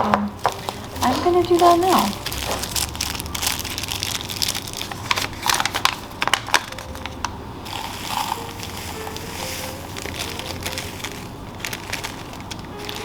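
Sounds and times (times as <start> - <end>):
plastic crunching and crackling: 0.0 - 13.0.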